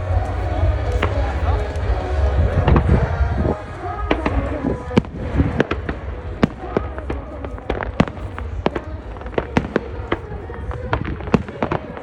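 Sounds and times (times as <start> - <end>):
fireworks crackling and popping: 0.0 - 12.0
low rumble: 0.0 - 12.0.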